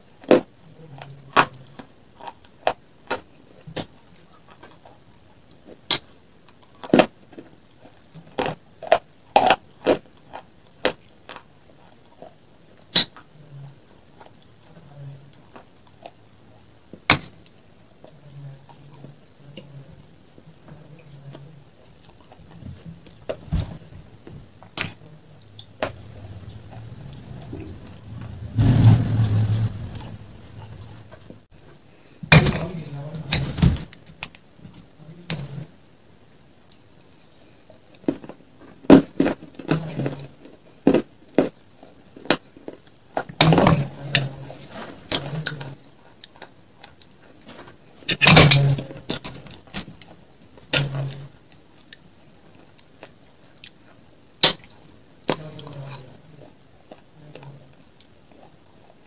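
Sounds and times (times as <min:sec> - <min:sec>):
chewing: 0:00.1 - 0:17.3, 0:20.6 - 0:31.4, 0:36.6 - 0:59.0.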